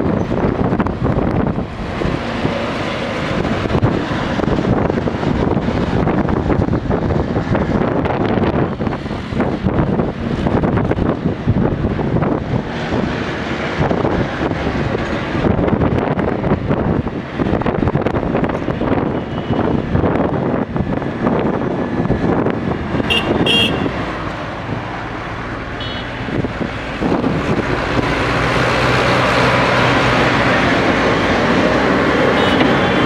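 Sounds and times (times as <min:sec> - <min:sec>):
diesel engine rumbling: 0:00.0 - 0:33.0
steady rushing noise: 0:00.0 - 0:33.0.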